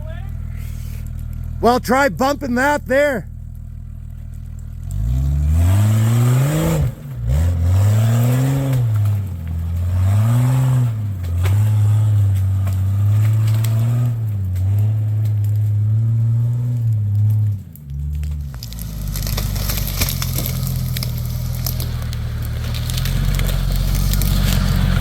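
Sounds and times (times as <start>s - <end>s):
off-road vehicle engine revving: 0.0s - 25.0s
tyre and ground noise: 0.0s - 25.0s.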